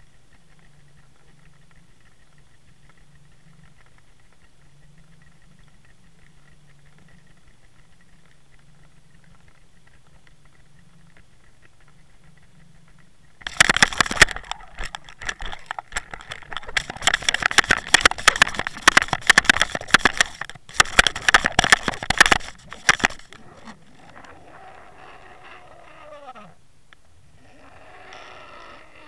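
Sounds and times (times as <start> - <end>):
faint low underwater hum: 0.0 - 29.0
dense crackling and knocking: 0.3 - 24.2.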